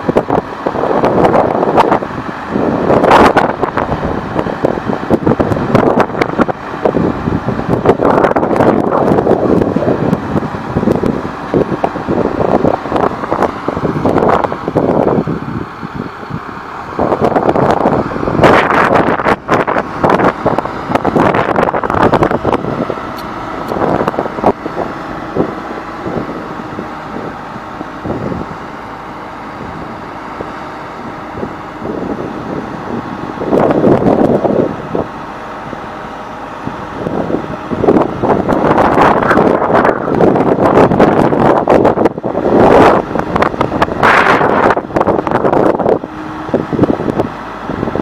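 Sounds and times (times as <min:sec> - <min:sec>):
crane engine running: 0:00.0 - 0:48.0
wind buffeting microphone: 0:00.0 - 0:48.0.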